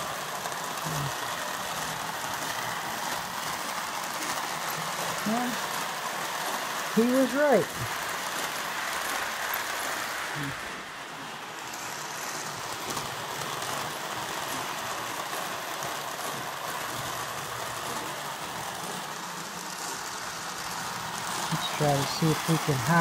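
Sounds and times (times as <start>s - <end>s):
toy train motor whirring: 0.0s - 23.0s
wheels rumbling on rails: 0.0s - 23.0s.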